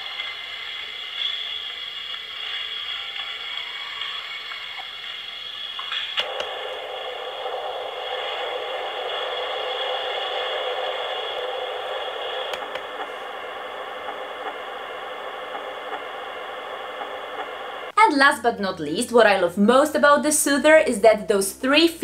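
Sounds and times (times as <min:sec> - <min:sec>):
ocean waves hiss from speaker: 0:00.0 - 0:17.9
white noise with heartbeat: 0:00.0 - 0:18.0.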